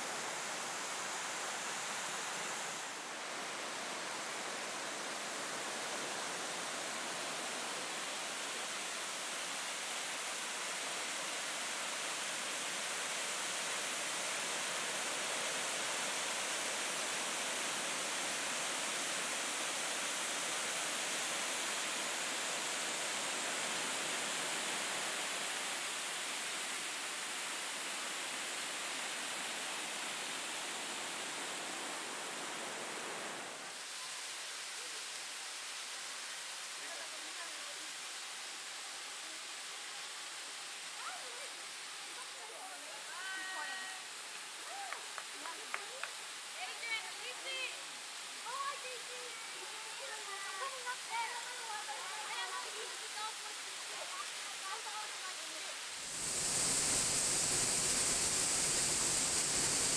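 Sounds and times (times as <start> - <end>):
waterfall rushing: 0.0 - 41.9, 43.0 - 59.9.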